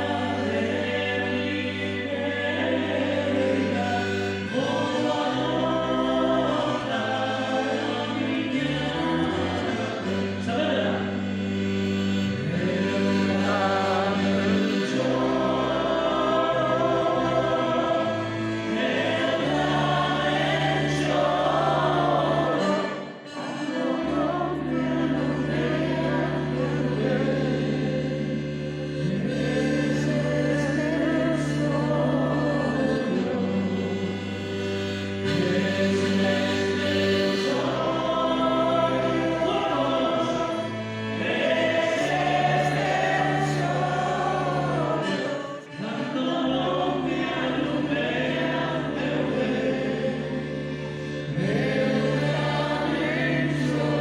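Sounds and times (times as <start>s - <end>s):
choir-like voices singing: 0.0s - 54.0s.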